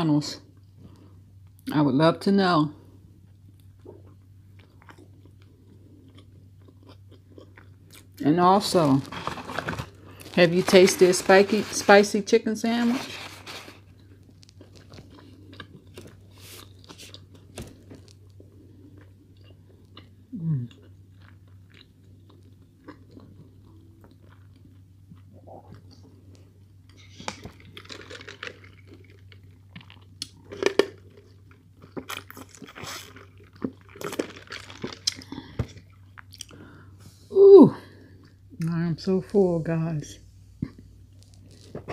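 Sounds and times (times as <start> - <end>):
low steady hum: 0.0 - 41.9
person chewing and crunching food: 3.2 - 11.8, 13.1 - 36.9, 40.6 - 41.9.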